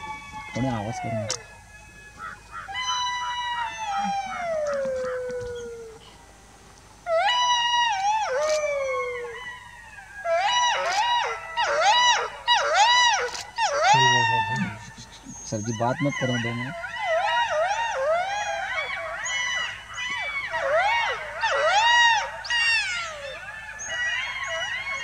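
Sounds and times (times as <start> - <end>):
jackal howling: 0.0 - 6.1, 7.0 - 25.0
jackal yipping cries: 0.0 - 6.1, 7.0 - 25.0.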